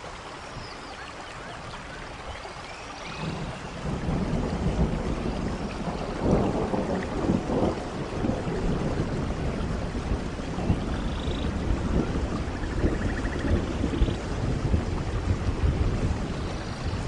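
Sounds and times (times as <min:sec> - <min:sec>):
steady rain: 0:00.0 - 0:17.0
low rolling thunder: 0:03.2 - 0:17.0.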